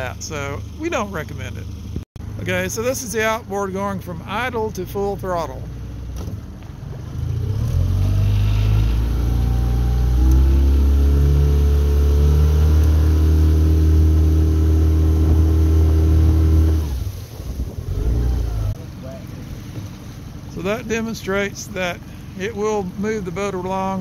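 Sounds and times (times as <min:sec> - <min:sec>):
outboard motor revving: 0:00.0 - 0:24.0.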